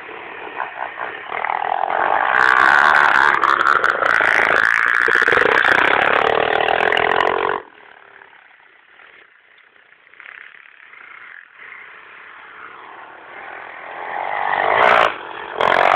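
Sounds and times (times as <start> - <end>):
pit bike engine running: 0.0 - 15.9.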